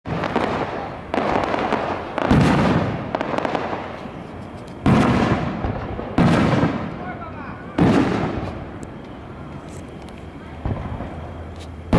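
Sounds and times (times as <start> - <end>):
fireworks booming: 0.1 - 11.9
fireworks crackling: 0.1 - 11.9.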